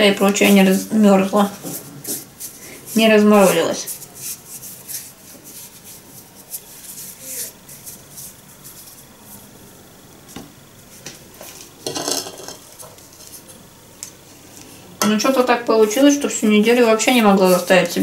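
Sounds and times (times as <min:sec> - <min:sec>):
hands rubbing dough: 0:00.0 - 0:11.8, 0:14.2 - 0:18.0.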